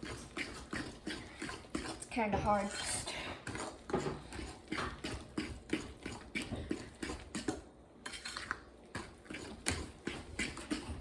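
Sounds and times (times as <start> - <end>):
fork beating batter in bowl: 0.0 - 11.0.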